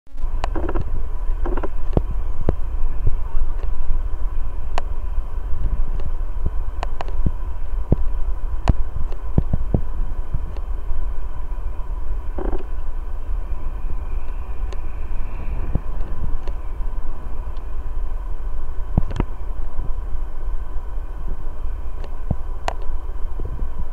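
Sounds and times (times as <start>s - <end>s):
jet engines rumbling and whining: 0.1s - 23.9s.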